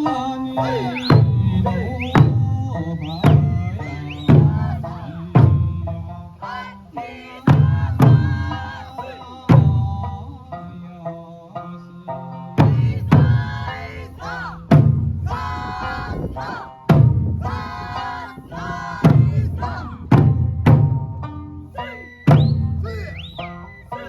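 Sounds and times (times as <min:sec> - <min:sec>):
heavy drum strikes: 0:00.0 - 0:06.7, 0:07.4 - 0:10.7, 0:12.6 - 0:21.5, 0:22.3 - 0:23.5
sung folk melody: 0:00.0 - 0:24.0.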